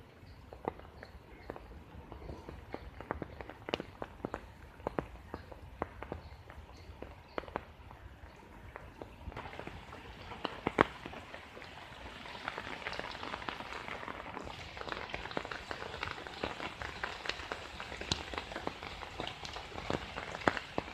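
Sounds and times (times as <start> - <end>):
rain falling on water: 0.0 - 20.9.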